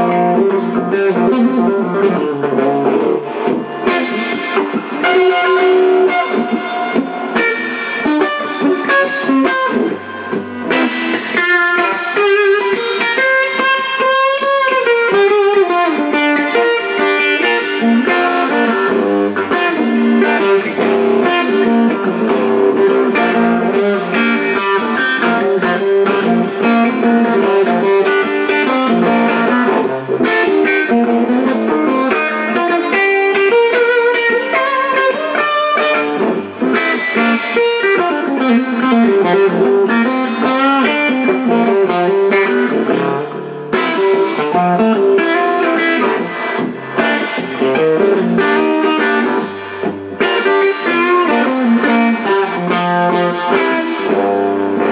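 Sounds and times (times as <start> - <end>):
electric guitar blues lead: 0.0 - 54.9.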